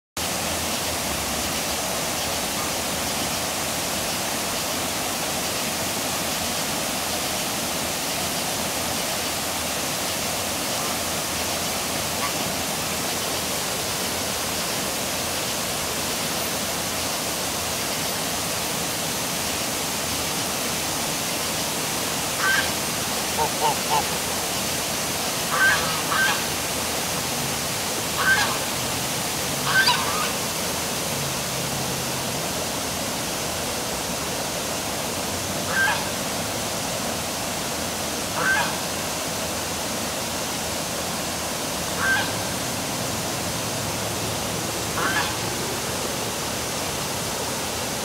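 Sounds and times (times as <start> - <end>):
waterfall roaring: 0.2 - 48.0.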